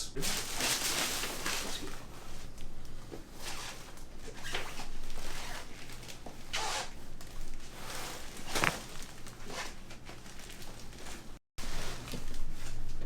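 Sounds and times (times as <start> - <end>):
rustling and shuffling: 0.1 - 13.0.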